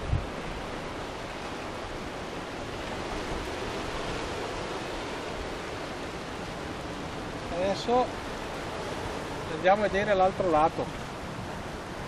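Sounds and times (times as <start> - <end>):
waves breaking on rocks: 0.0 - 12.0.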